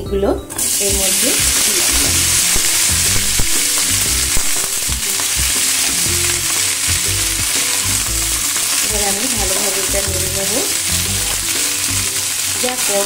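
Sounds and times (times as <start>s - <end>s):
okra sizzling in hot oil: 0.5s - 13.0s.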